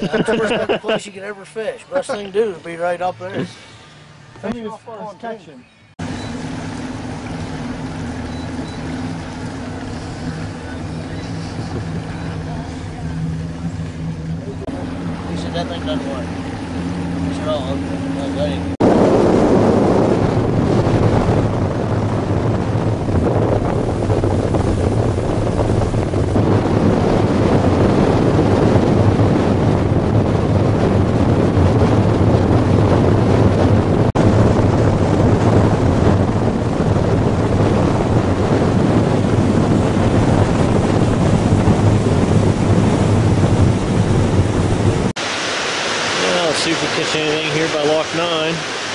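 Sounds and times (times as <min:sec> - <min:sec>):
outboard motor humming: 0:01.6 - 0:48.9
wind on microphone: 0:06.0 - 0:48.9.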